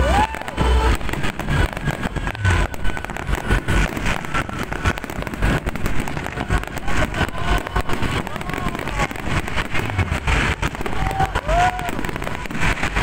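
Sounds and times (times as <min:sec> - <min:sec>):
firework crackling: 0:00.0 - 0:13.0
firework shell bursts and booms: 0:00.2 - 0:13.0.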